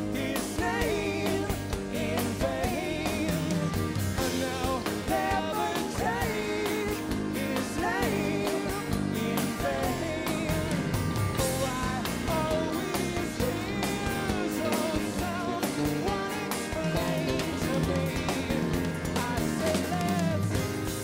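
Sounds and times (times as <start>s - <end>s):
accordion: 0.0s - 21.0s
live rock band playing: 0.0s - 21.0s.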